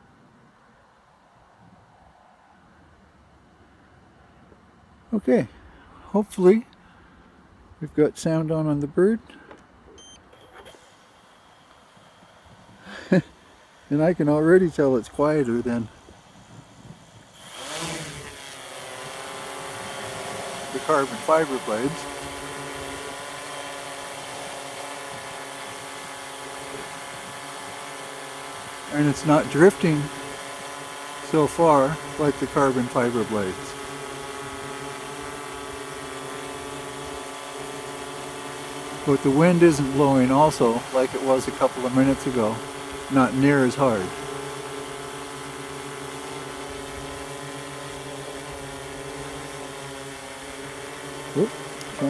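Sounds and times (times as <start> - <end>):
quadcopter hovering hum: 9.0 - 52.0.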